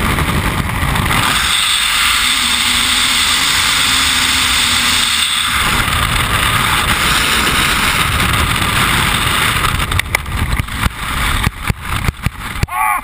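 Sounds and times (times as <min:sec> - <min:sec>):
freefall wind rushing over microphone: 0:00.0 - 0:13.0.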